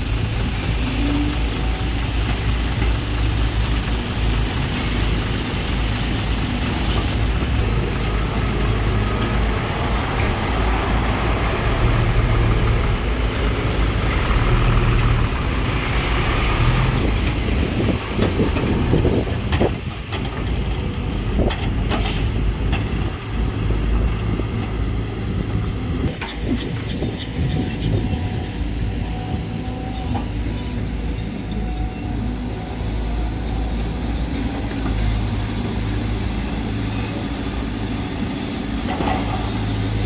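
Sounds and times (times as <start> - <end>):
diesel machinery engine drone: 0.0 - 40.0.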